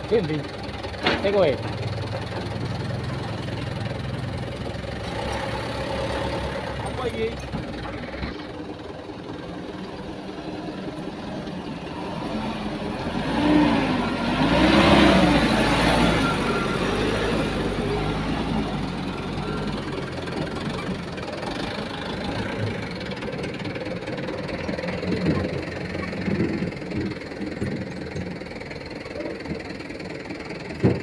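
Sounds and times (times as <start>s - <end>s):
dump truck idling: 0.0s - 31.0s
excavator diesel engine: 0.0s - 31.0s.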